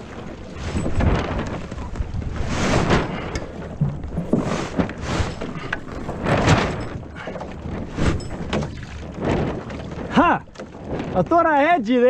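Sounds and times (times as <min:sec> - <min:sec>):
boat knocks and thuds: 0:00.0 - 0:12.0
water rushing past hulls: 0:00.0 - 0:12.0
wind buffeting microphone: 0:00.0 - 0:12.0.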